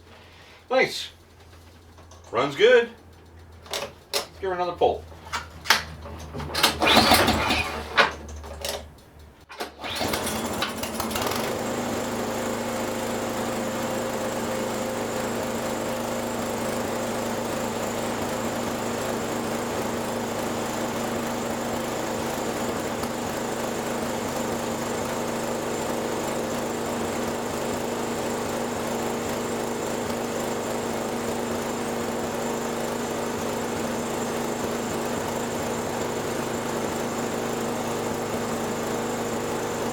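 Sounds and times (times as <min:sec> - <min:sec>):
small gas engine starting and running: 0:01.8 - 0:39.9.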